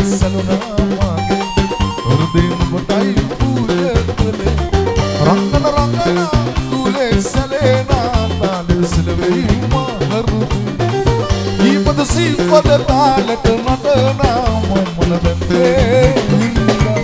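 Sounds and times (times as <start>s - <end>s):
bass line: 0.0s - 17.0s
drum kit beat: 0.0s - 17.0s
man singing: 0.0s - 17.0s.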